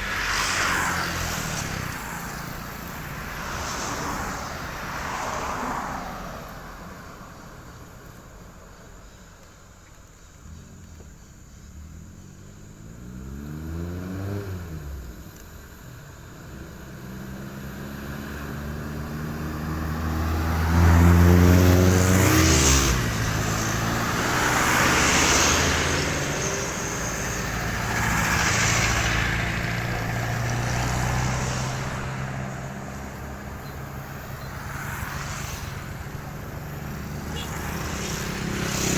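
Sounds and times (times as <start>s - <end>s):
vehicles driving past: 0.0s - 38.9s.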